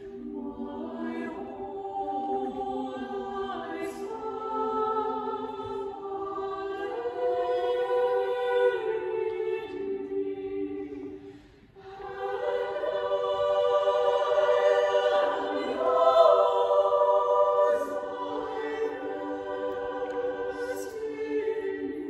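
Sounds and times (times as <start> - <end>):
choir singing a cappella: 0.0 - 22.0.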